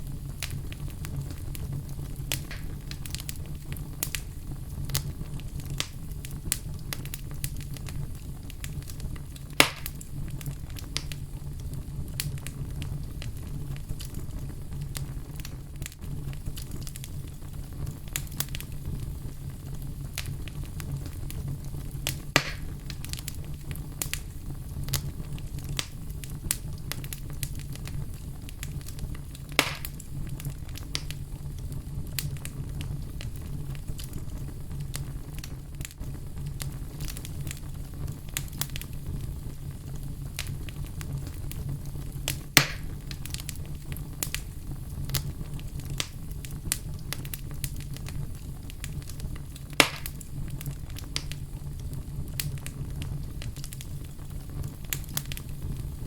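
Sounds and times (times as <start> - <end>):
fire crackling: 0.0 - 56.0
loud fire pops: 0.0 - 56.0
low rumble of fire: 0.0 - 56.0.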